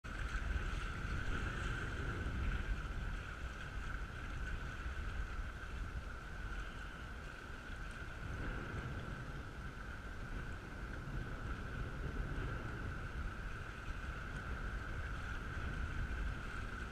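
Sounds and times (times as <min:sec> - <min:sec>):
wind rumbling on microphone: 0:00.0 - 0:16.9.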